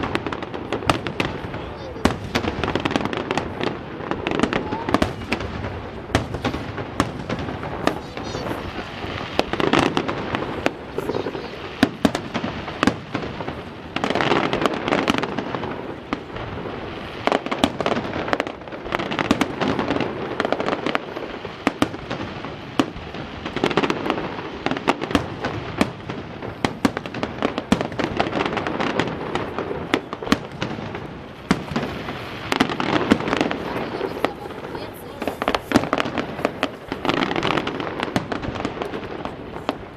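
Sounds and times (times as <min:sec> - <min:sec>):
fireworks bursts and crackles: 0:00.0 - 0:39.9.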